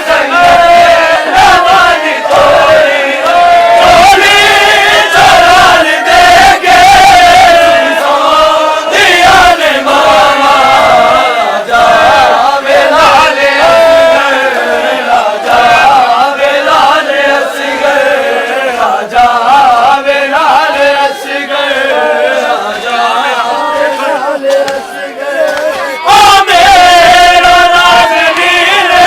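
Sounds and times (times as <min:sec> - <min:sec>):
crowd chanting a lament: 0:00.0 - 0:29.0.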